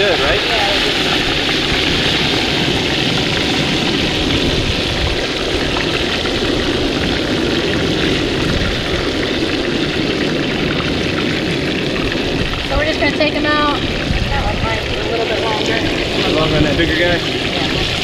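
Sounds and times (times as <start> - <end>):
chicken sizzling in oil: 0.0 - 18.0
wind on microphone: 0.0 - 18.0.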